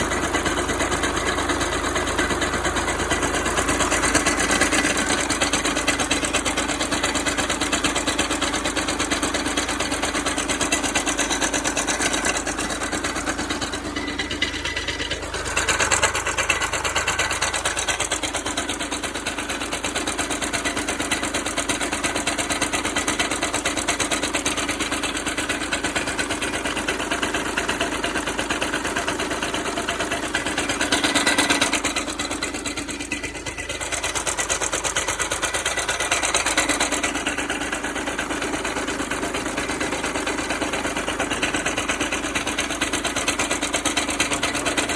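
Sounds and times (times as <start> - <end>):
car engine idling: 0.0 - 44.9
flywheel knocking rattle: 0.0 - 44.9.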